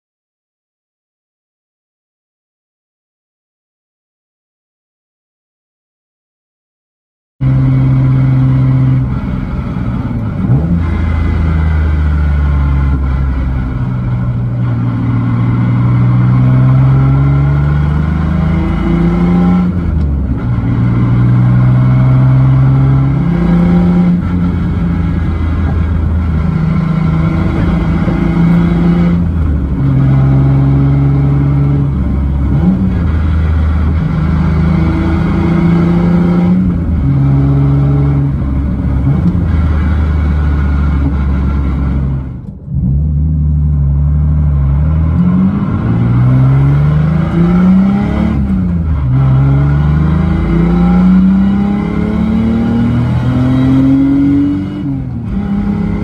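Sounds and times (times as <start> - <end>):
car engine from inside cabin: 7.4 - 56.0.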